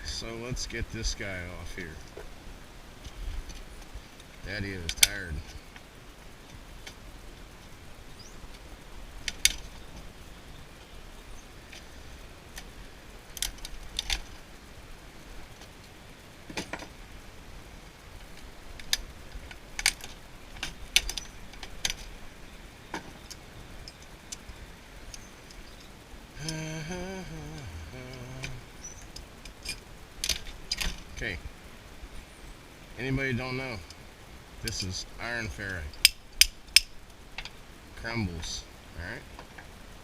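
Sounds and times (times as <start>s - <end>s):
low background rumble: 0.0s - 40.0s.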